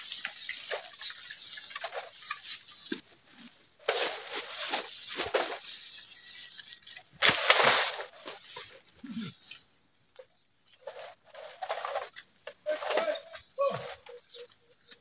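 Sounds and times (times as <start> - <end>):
leafy branches rustling: 0.0 - 15.0.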